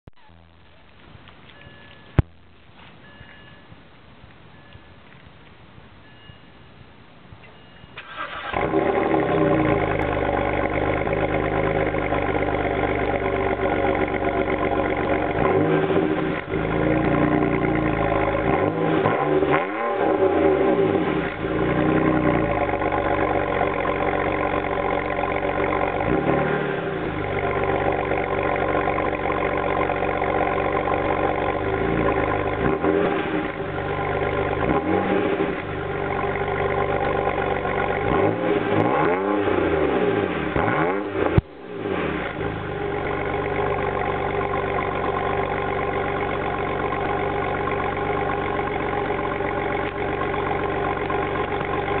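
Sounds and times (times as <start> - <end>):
car engine idling: 8.0 - 19.1, 20.0 - 52.0
exhaust crack: 8.0 - 52.0
engine revving: 8.1 - 52.0.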